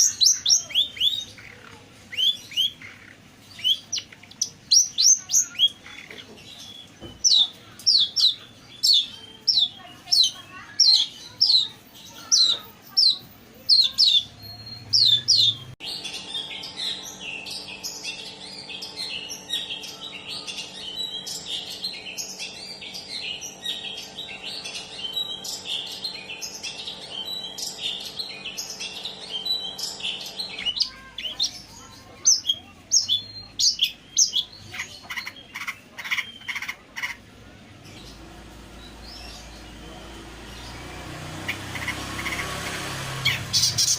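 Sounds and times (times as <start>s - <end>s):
bird calling and chattering: 0.0s - 43.9s.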